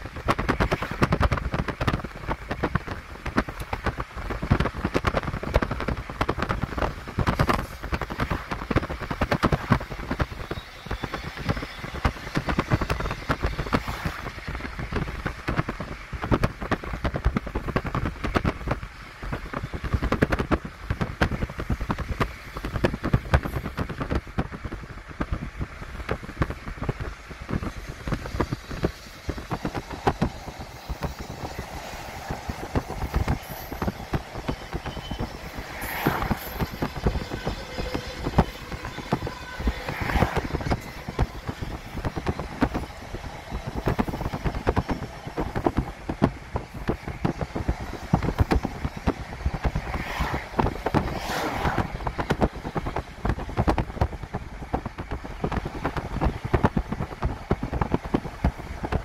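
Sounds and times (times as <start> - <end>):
freight train wheels rumbling on rail: 0.0 - 59.0
train cars clanking and rattling: 0.0 - 59.0.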